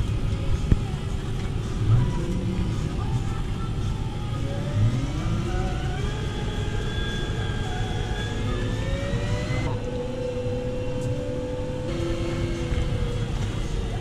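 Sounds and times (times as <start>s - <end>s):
diesel engine rumble: 0.0s - 14.0s
machinery whine rising in pitch: 1.7s - 14.0s.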